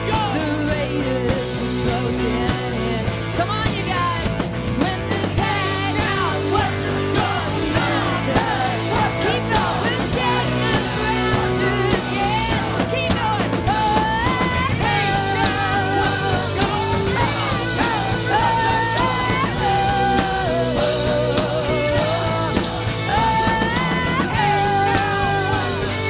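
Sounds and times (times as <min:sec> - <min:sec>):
bass guitar: 0:00.0 - 0:26.0
drum kit: 0:00.0 - 0:26.0
electric guitar: 0:00.0 - 0:26.0
woman singing: 0:00.0 - 0:26.0.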